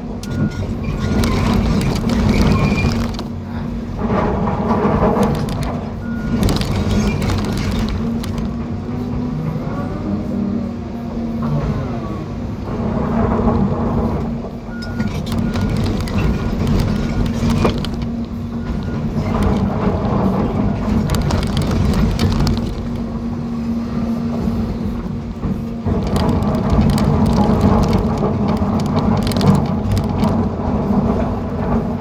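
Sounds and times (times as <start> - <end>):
diesel engine running: 0.0 - 32.0
hydraulics whining: 0.0 - 32.0.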